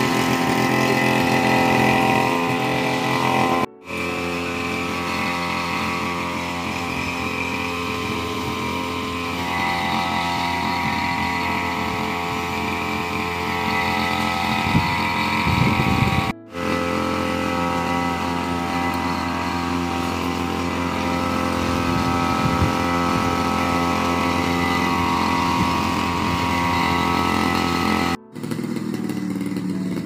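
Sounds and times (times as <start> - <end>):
brush cutter engine running: 0.0 - 30.0.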